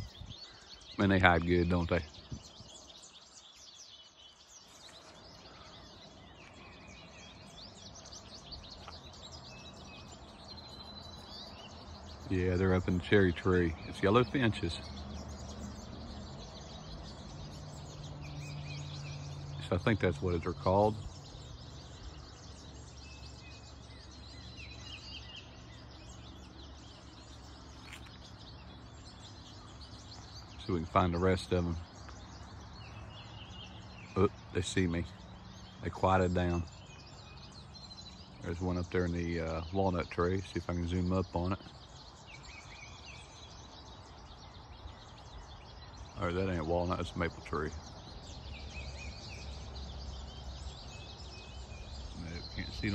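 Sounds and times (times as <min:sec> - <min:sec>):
finches chirping: 0:00.0 - 0:52.9.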